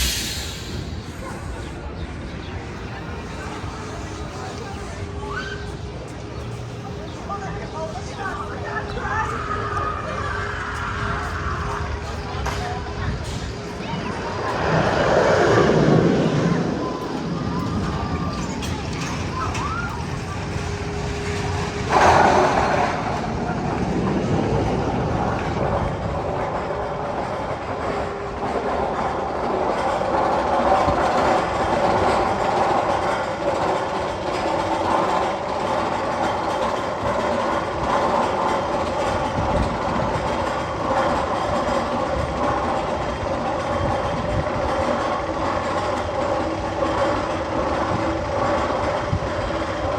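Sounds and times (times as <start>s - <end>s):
roller coaster rumbling on track: 0.0s - 49.9s.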